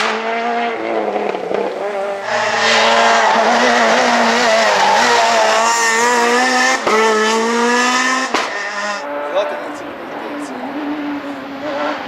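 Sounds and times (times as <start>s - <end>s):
rally car engine revving high: 0.0s - 12.0s.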